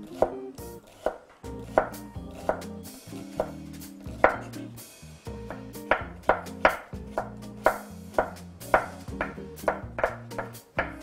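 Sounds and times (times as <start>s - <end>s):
knife chopping on wooden board: 0.0s - 4.6s, 5.4s - 11.0s.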